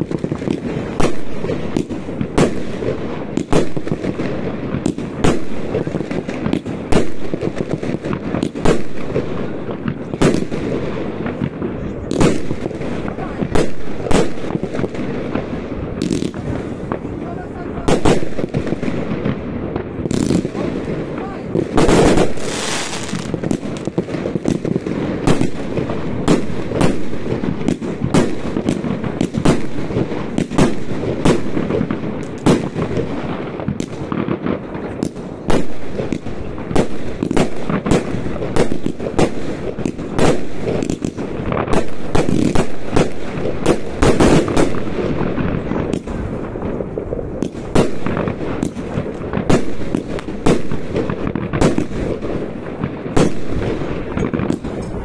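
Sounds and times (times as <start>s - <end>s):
distant explosions: 0.0s - 55.0s
firework bangs: 0.0s - 55.0s
fireworks crackling: 0.0s - 55.0s.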